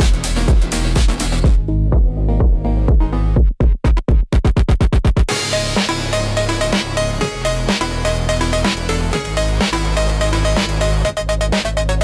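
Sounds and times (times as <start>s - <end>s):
deep sub-bass: 0.0s - 12.0s
phonk music: 0.0s - 12.0s.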